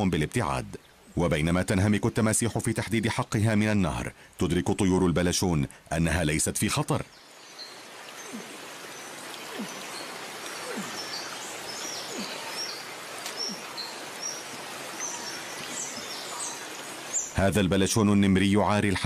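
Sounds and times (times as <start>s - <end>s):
rain hiss: 0.0s - 4.6s, 7.0s - 17.9s.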